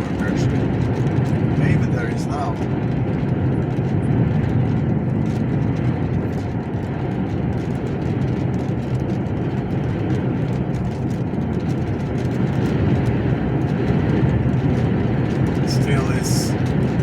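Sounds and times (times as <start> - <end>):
engine and road noise in cab: 0.0 - 17.0.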